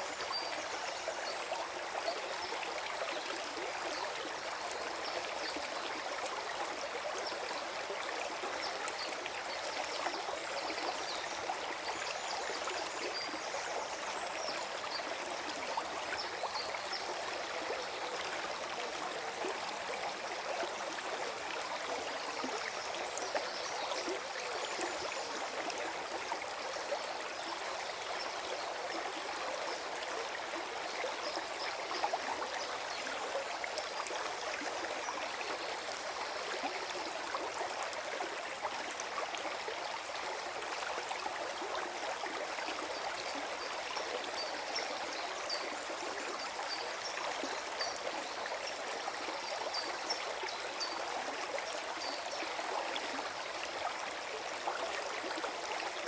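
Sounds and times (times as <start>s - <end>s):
stream gurgling over stones: 0.0s - 56.0s.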